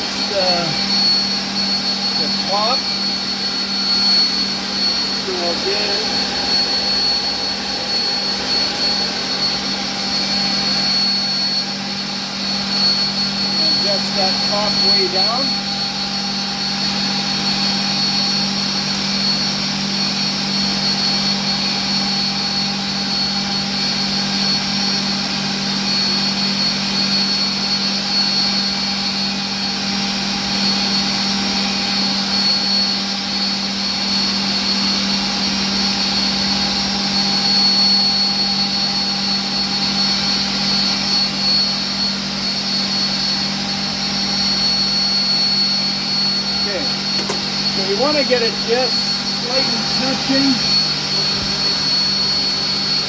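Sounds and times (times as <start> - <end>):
machine hum with high whine: 0.0 - 53.0.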